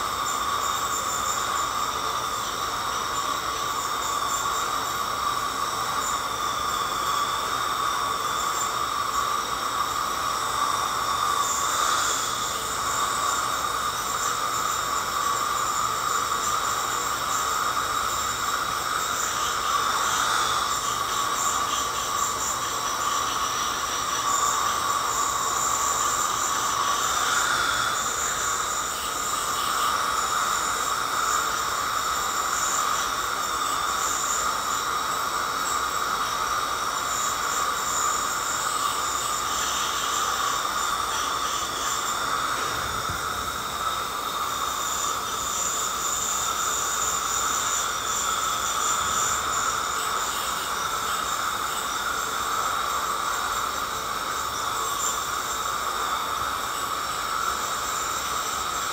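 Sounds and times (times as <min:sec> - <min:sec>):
dental scaler hiss and whine: 0:00.0 - 0:58.9.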